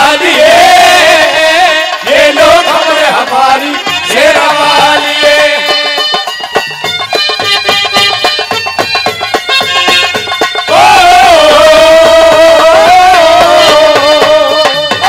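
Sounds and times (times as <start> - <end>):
drum accompaniment: 0.0 - 15.0.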